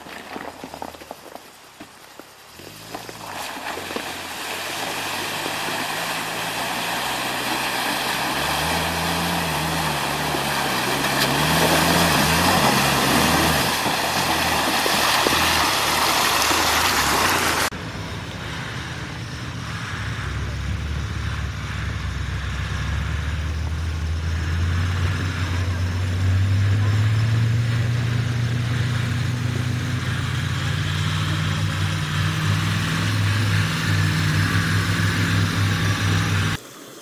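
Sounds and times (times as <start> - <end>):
water and mud splashing: 0.0 - 37.0
van engine labouring: 2.2 - 36.6.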